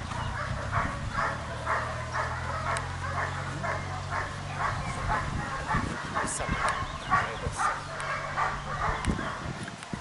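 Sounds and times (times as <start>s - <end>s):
dog barking: 0.3s - 9.5s.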